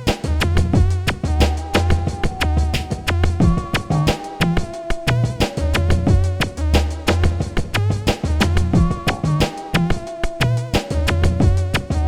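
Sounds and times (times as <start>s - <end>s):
electronic music with drum machine beat: 0.0s - 12.0s.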